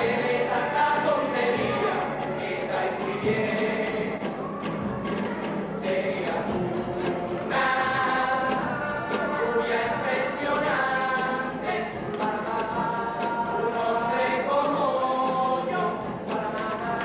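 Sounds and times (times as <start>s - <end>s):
group singing in chorus: 0.0s - 17.0s
guitar: 0.0s - 17.0s.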